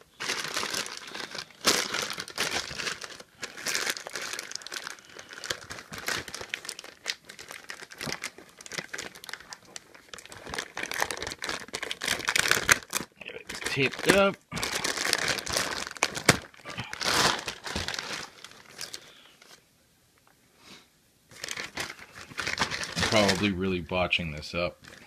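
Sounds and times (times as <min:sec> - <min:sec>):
plastic packaging crinkling: 0:00.0 - 0:19.6, 0:21.3 - 0:25.0.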